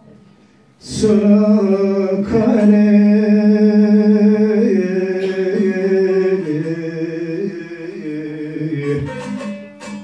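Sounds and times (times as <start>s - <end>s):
man singing folk melody: 0.8s - 10.0s.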